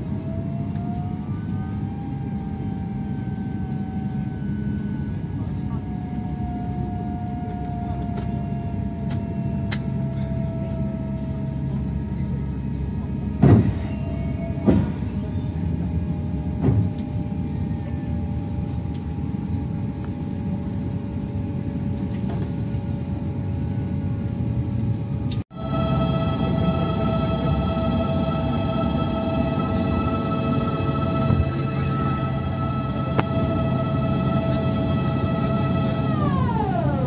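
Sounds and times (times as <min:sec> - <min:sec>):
faint whine falling in pitch: 0:00.0 - 0:20.4, 0:25.5 - 0:37.0
aircraft cabin rumble: 0:00.0 - 0:37.0.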